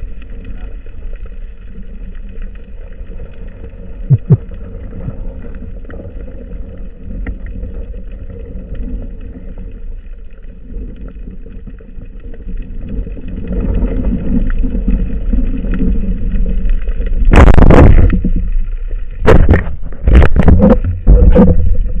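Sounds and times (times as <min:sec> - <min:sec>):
underwater rumble: 0:00.0 - 0:22.0.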